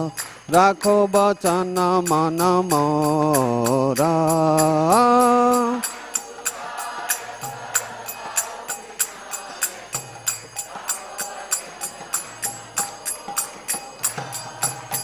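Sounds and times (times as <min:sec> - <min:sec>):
hand cymbals struck rhythmically: 0:00.0 - 0:15.0.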